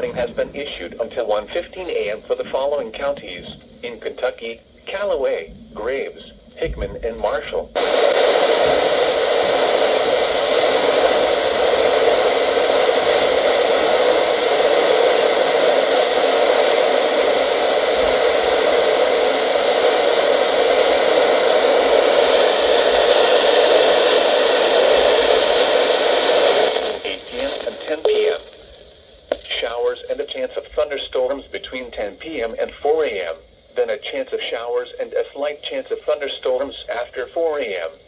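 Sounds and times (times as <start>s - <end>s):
radio static hiss: 0.0s - 38.0s.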